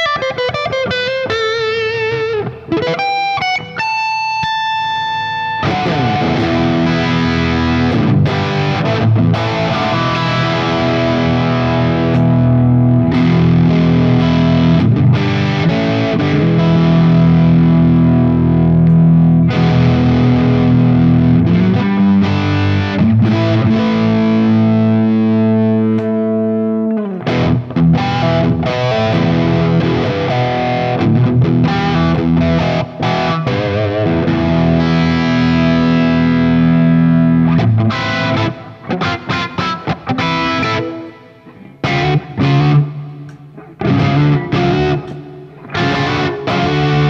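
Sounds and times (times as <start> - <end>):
distorted electric guitar: 0.0 - 47.0.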